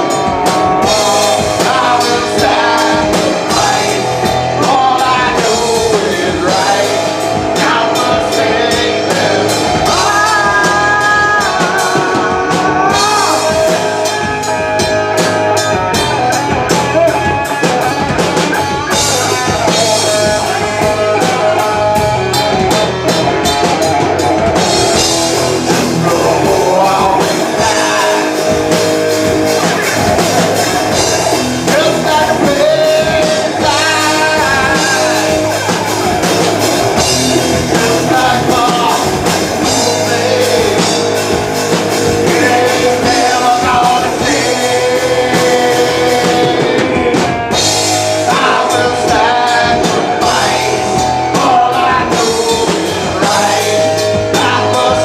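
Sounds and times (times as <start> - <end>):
drum kit: 0.0 - 55.0
electric guitar: 0.0 - 55.0
person singing: 0.0 - 55.0.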